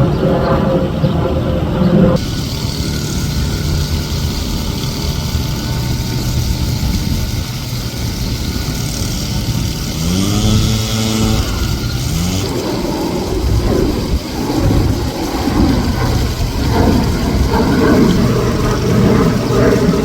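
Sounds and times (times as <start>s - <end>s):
vehicle engine running: 2.2s - 20.0s.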